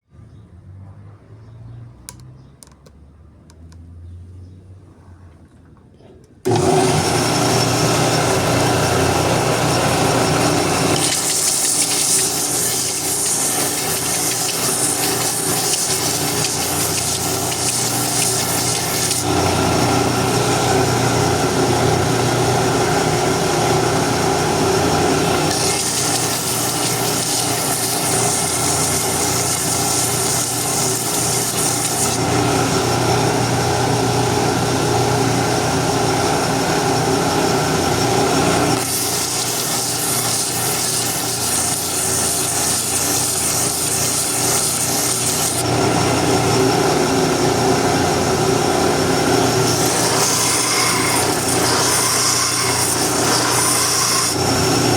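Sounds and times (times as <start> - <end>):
electric sander sanding wood: 6.5 - 33.7, 36.4 - 54.9.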